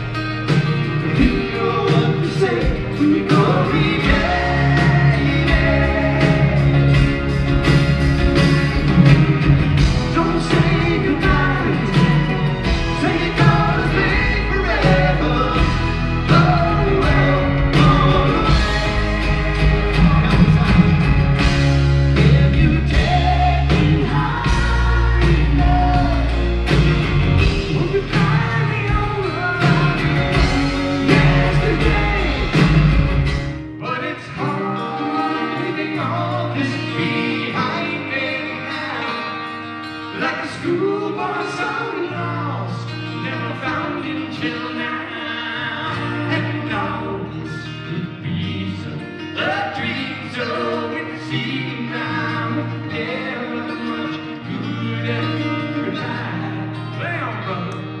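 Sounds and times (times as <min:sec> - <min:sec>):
man singing: 0:00.0 - 0:07.7, 0:08.9 - 0:33.0, 0:33.7 - 0:58.0
live rock band playing: 0:00.0 - 0:58.0.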